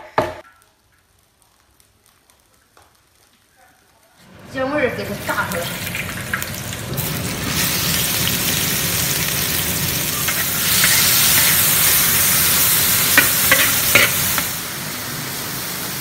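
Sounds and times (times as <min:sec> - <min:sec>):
aromatics sizzling in hot oil: 0:00.6 - 0:16.0.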